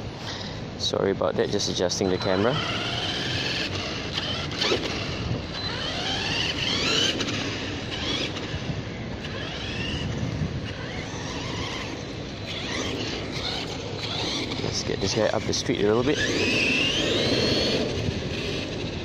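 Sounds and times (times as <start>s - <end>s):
toy truck electric motor whining: 1.4s - 19.0s.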